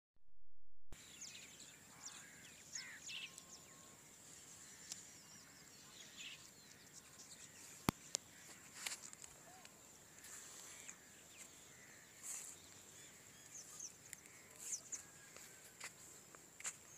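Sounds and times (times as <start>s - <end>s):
faint outdoor background: 0.9s - 16.9s
small birds chirping: 1.0s - 16.9s.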